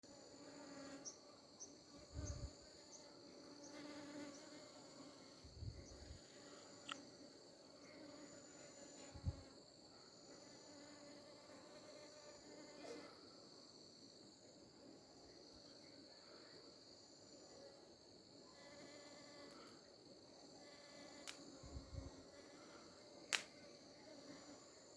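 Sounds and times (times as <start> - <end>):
insects chirping: 0.0 - 24.9.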